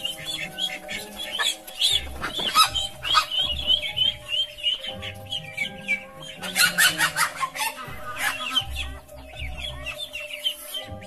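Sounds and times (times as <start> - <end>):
background music sustained notes: 0.0 - 11.0
goose squawking: 0.0 - 11.0
short wavering calls: 0.0 - 11.0.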